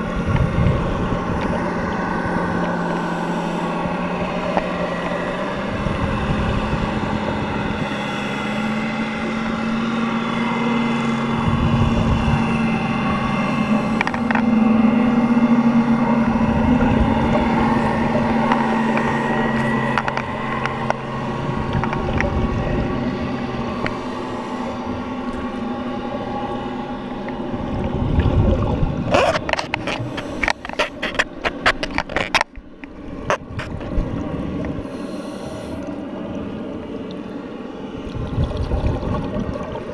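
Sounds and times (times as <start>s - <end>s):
regulator bubbles rushing: 0.0s - 31.8s, 36.0s - 39.9s
underwater motor drone: 0.0s - 39.9s.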